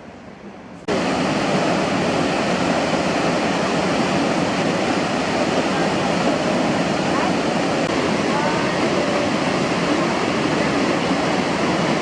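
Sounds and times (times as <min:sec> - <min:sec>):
water rushing: 0:00.9 - 0:12.0.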